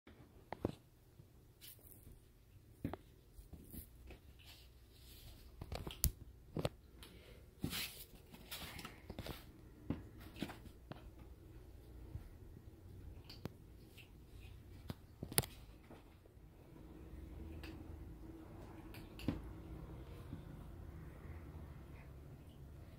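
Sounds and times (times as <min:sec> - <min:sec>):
kittens playing taps and rustles: 0:00.2 - 0:22.9.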